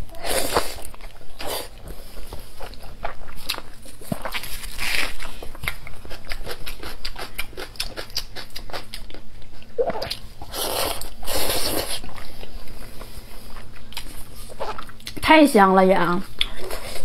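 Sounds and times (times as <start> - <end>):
wet chewing and lip-smacking: 0.5 - 15.2.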